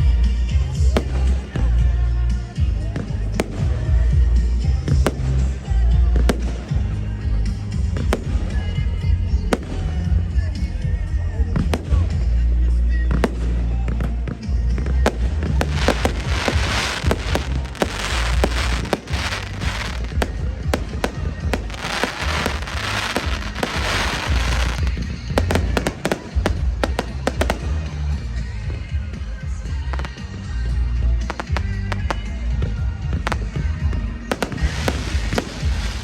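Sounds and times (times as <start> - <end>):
fireworks crackling: 0.0 - 10.8, 11.6 - 36.0
music with heavy bass: 0.0 - 36.0
fireworks bangs: 0.6 - 2.0, 2.8 - 10.2, 13.1 - 29.0, 29.8 - 36.0.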